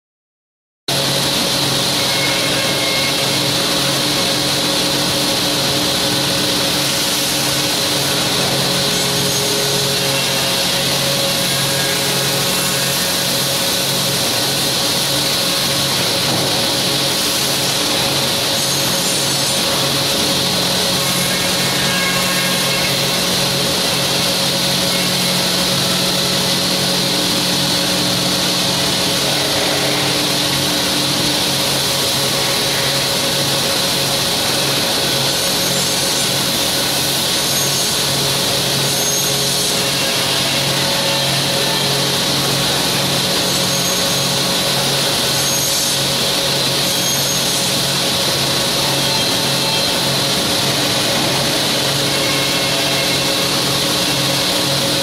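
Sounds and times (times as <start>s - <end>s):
machine hum and spindle whine: 0.9s - 55.0s
drill cutting wood: 1.0s - 55.0s.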